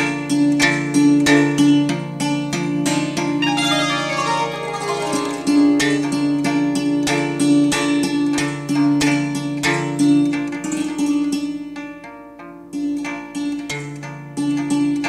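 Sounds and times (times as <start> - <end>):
hammered dulcimer: 0.0 - 15.0.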